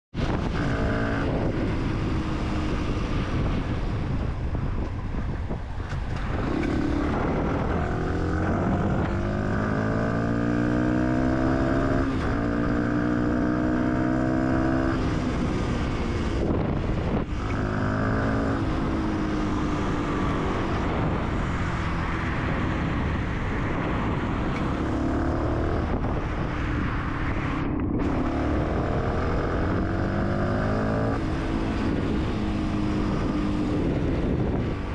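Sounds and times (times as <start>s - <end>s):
motorcycle engine accelerating: 0.1s - 34.9s
wind and road noise: 0.1s - 34.9s.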